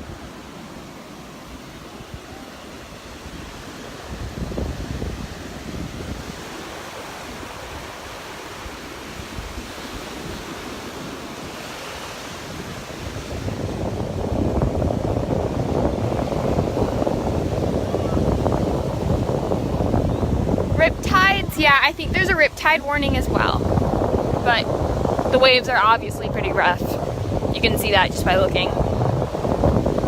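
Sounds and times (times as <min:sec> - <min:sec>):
surf breaking on beach: 0:00.0 - 0:30.0
wind buffeting microphone: 0:00.0 - 0:30.0.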